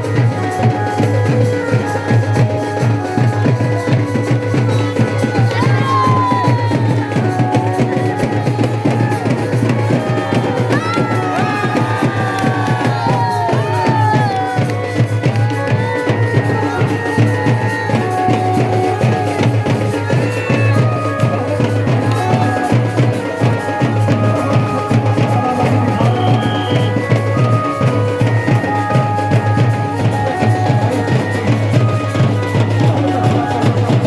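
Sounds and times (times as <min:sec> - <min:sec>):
drums beating busily: 0:00.0 - 0:34.0.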